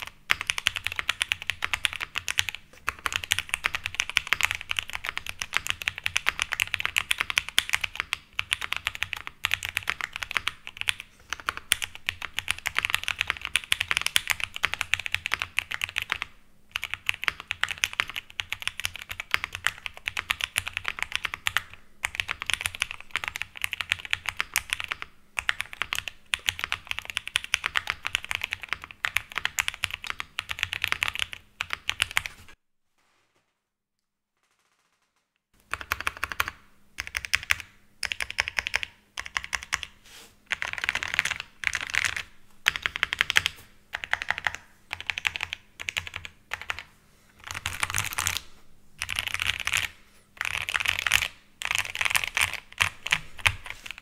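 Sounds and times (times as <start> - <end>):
mechanical keyboard typing: 0.0 - 32.5, 35.6 - 39.9, 40.5 - 54.0.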